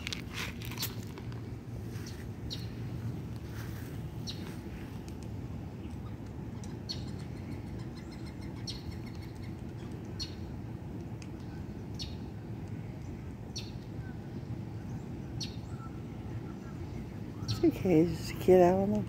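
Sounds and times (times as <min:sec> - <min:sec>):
low background rumble: 0:00.0 - 0:19.0
birds chirping: 0:01.8 - 0:05.0, 0:05.6 - 0:10.6, 0:11.3 - 0:19.0.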